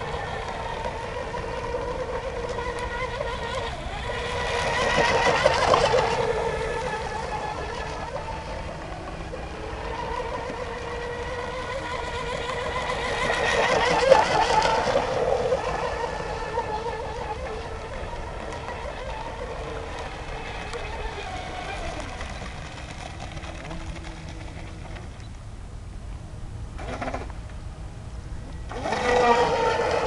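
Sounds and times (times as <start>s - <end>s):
rc boat motor whine: 0.0s - 30.0s.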